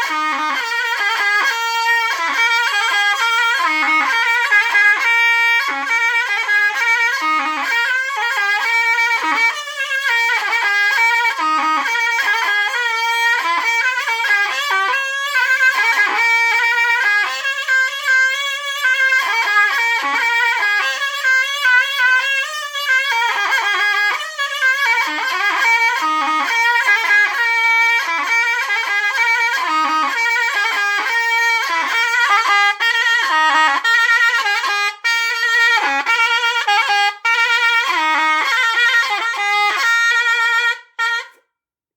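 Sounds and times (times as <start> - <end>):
zurna folk melody: 0.0 - 41.5.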